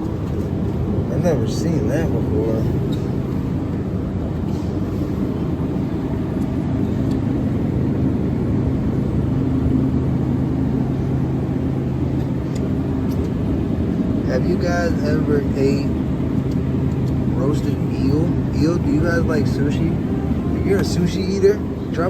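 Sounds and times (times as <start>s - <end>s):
low engine-like hum: 0.0s - 22.0s.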